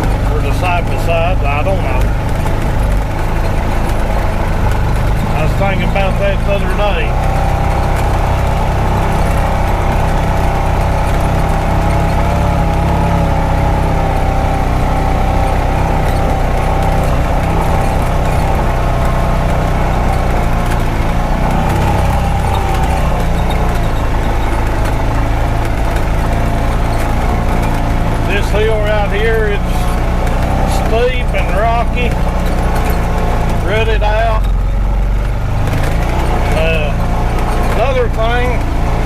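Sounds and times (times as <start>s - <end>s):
engine running under load: 0.0s - 39.0s.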